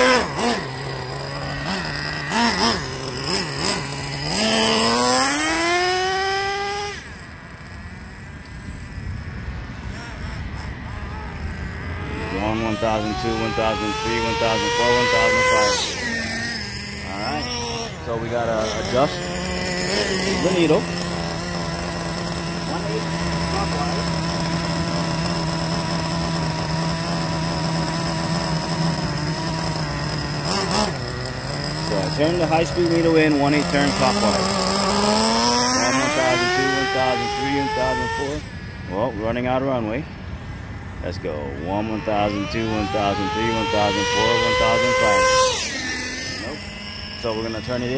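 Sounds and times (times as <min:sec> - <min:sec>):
nitro engine revving: 0:00.0 - 0:47.9.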